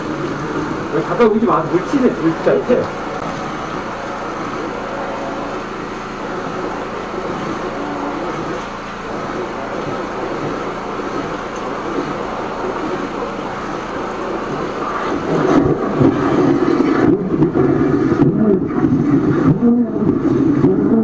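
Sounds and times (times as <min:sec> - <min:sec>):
water splashing: 0:00.0 - 0:20.9
drain jetter water rushing: 0:00.0 - 0:21.0.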